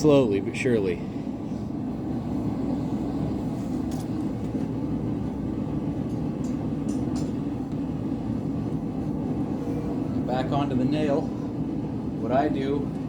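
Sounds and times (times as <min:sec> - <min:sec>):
gas forge burner roaring: 0:00.0 - 0:13.0.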